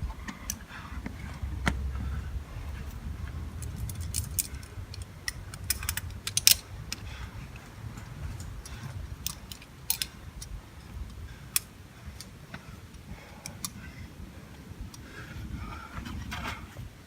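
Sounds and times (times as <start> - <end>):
climbing gear clicks and knocks: 0.0 - 13.9
handling noise: 0.0 - 13.9
low wind rumble: 0.0 - 17.0.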